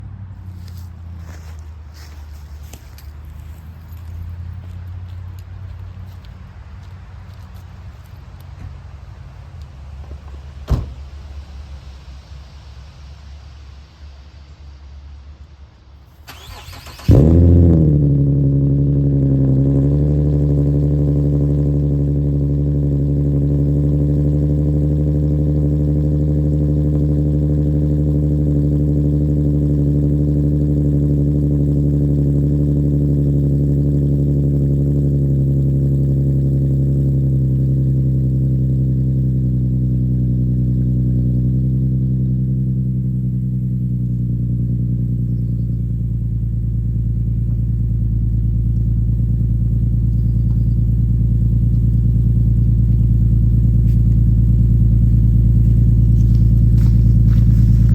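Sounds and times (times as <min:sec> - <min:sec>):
car engine starting and idling: 0:00.0 - 0:57.9.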